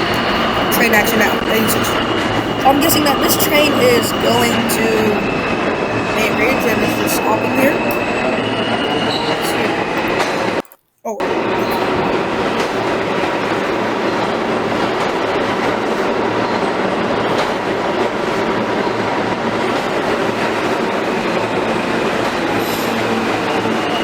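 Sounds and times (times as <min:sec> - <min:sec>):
subway train rumble on rails: 0:00.0 - 0:10.6, 0:11.2 - 0:24.0.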